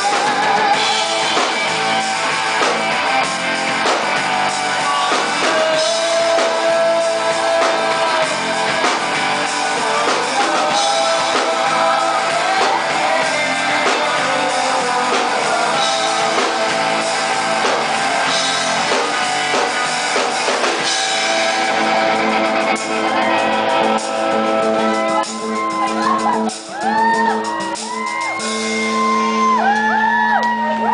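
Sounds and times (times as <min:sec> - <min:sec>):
drum kit: 0:00.0 - 0:30.9
electric bass guitar: 0:00.0 - 0:30.9
guitar: 0:00.0 - 0:30.9.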